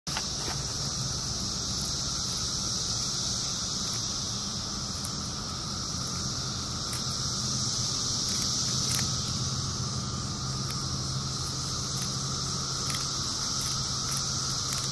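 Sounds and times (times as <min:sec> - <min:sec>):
cicadas buzzing: 0:00.1 - 0:14.9
low hum: 0:00.1 - 0:14.9.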